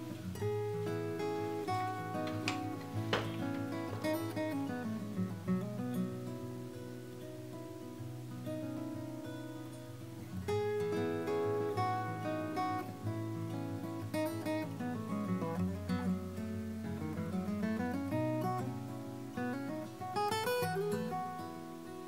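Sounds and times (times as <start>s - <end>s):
acoustic guitar melody: 0.0s - 22.0s.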